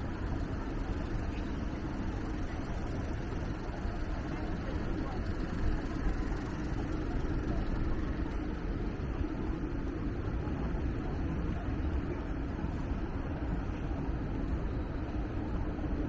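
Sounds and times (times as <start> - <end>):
city street traffic rumble: 0.0 - 16.0.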